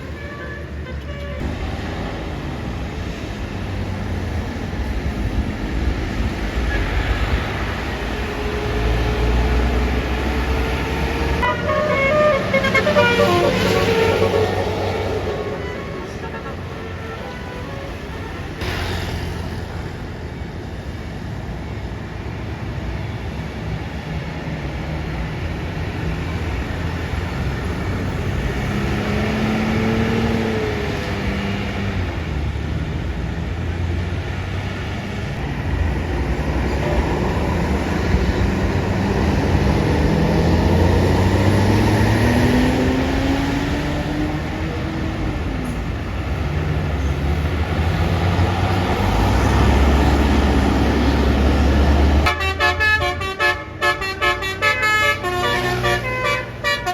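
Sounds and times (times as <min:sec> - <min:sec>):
bus engines accelerating: 0:00.0 - 0:56.9.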